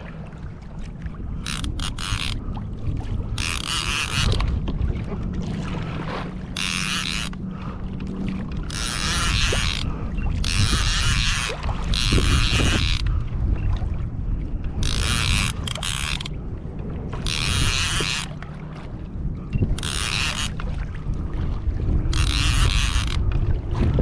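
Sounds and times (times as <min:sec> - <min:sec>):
low wind rumble: 0:00.0 - 0:24.0.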